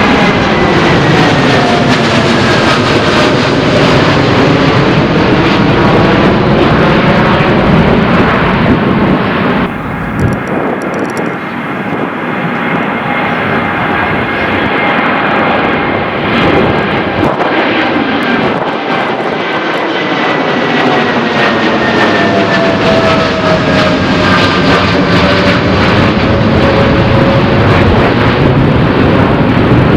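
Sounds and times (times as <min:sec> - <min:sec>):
jet airliner taking off: 0:00.0 - 0:29.9.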